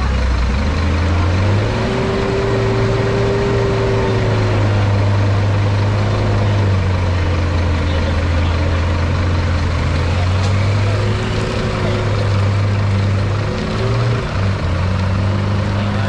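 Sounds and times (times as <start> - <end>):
diesel engine revving high: 0.0 - 16.0.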